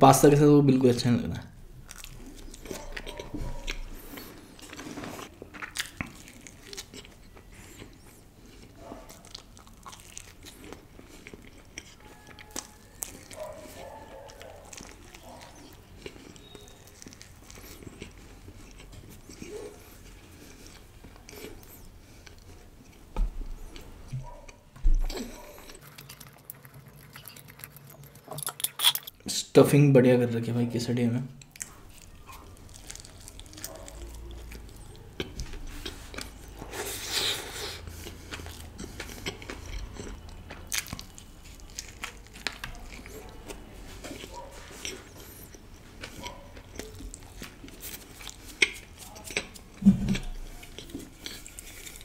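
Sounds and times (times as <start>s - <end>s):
chewing and crunching food: 1.7s - 29.3s, 31.4s - 52.0s.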